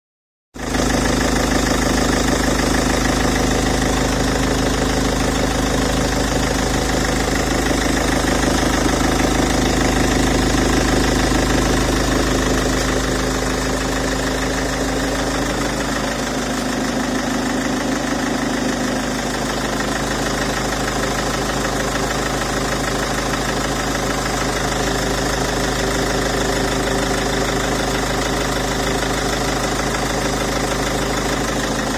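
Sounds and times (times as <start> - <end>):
diesel engine idling: 0.6 - 31.9.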